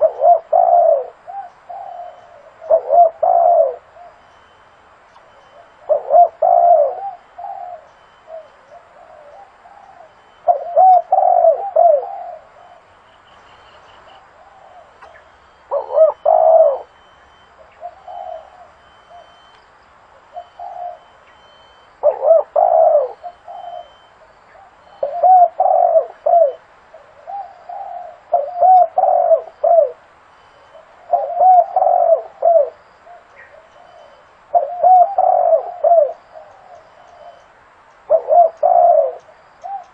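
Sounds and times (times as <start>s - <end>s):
dove cooing: 0.0s - 19.5s, 20.1s - 39.9s.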